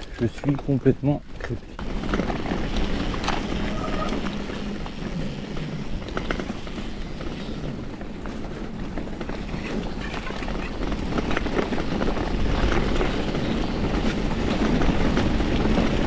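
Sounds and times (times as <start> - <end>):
bike clicks and rattles: 0.0 - 16.0
bike tyres rolling: 0.0 - 16.0
wind noise: 0.0 - 16.0.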